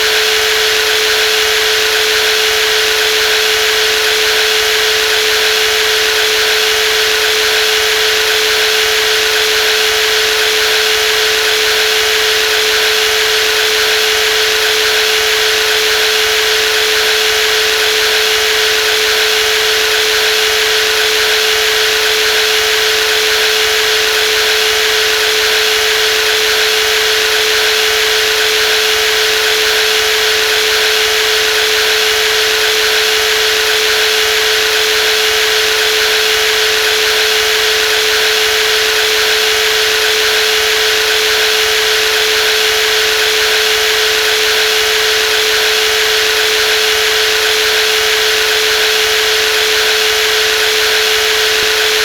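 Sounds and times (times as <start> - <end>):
jigsaw motor whining: 0.0 - 52.0.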